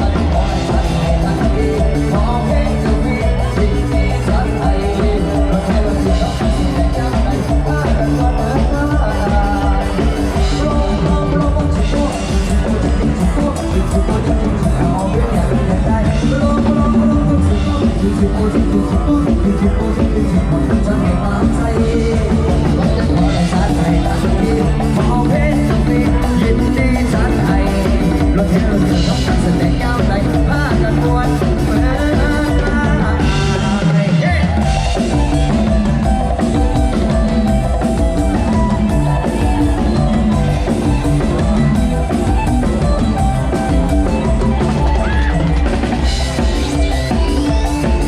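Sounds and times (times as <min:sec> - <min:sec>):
band music: 0:00.0 - 0:48.0
drum kit fast beat: 0:00.0 - 0:48.0
electric keyboard melody: 0:00.0 - 0:48.0.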